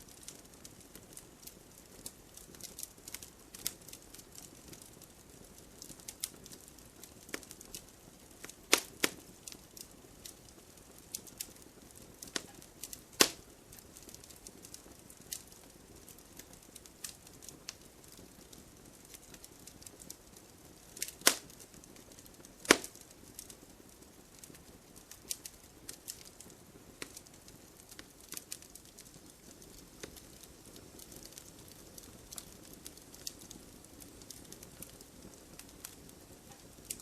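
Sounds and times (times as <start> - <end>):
campfire crackling and popping: 0.0 - 37.0
soft low fire hiss: 0.0 - 37.0.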